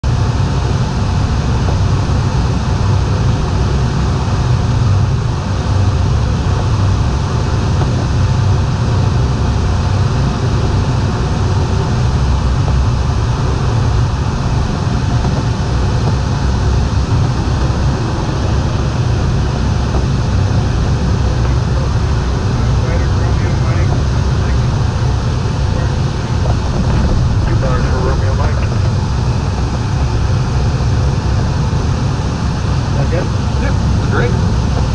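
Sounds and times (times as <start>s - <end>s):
rush of air with low rumble: 0.0s - 34.9s.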